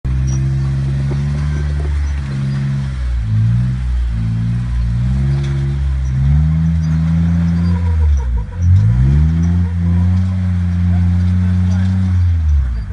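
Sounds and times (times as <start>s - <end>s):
engine revs rising and falling: 0.1s - 12.9s.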